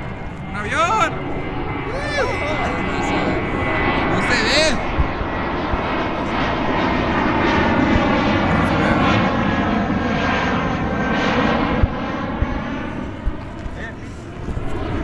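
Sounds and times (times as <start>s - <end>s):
airplane engine drone: 0.0s - 15.0s.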